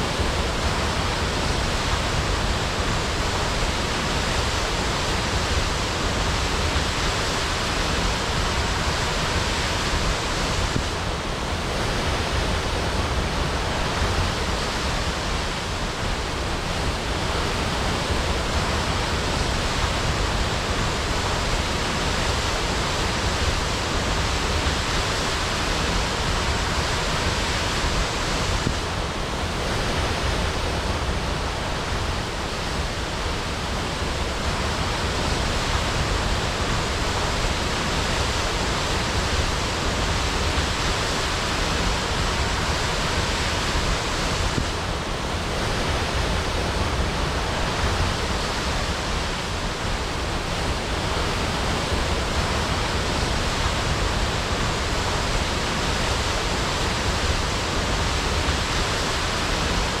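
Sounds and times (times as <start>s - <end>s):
waterfall crashing: 0.0s - 60.0s.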